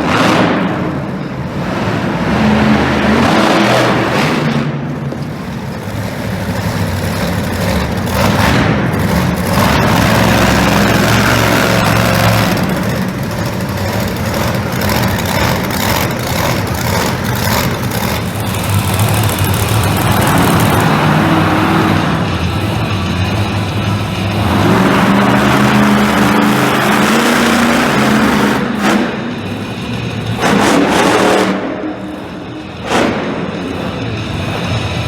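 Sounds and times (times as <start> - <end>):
monster truck engine revving: 0.0 - 35.0.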